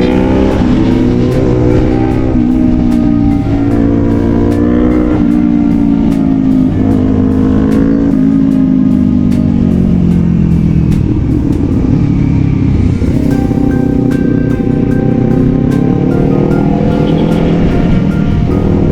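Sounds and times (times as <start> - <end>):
background music with steady beat: 0.0 - 18.9
motorcycle engine running: 0.0 - 18.9.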